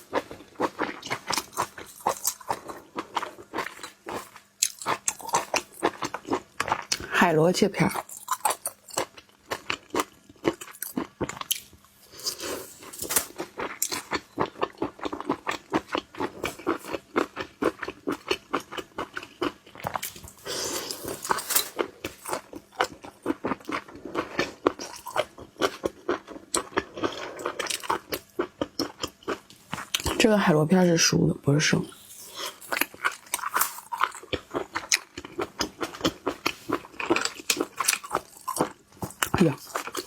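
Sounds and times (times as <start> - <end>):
person chewing food: 0.0 - 7.1, 8.0 - 30.2, 31.9 - 40.0.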